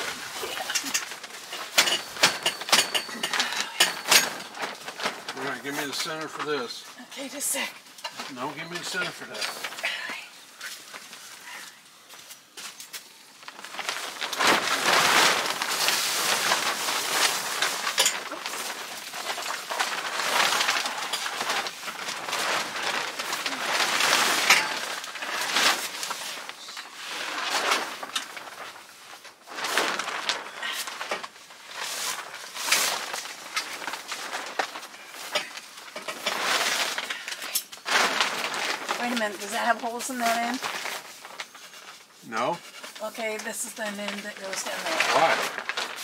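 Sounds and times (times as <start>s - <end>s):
fabric cover rustling and crinkling: 0.0s - 46.0s.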